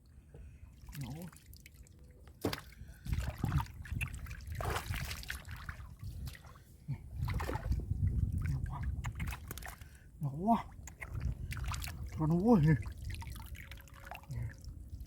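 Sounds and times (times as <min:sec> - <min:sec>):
shallow water splashing: 0:00.7 - 0:10.0, 0:10.9 - 0:14.7.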